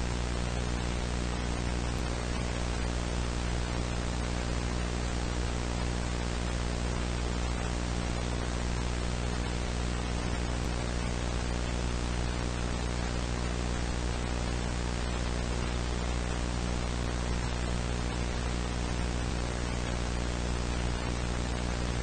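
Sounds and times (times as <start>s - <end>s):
low electrical hum: 0.0s - 22.0s
static hiss: 0.0s - 22.0s.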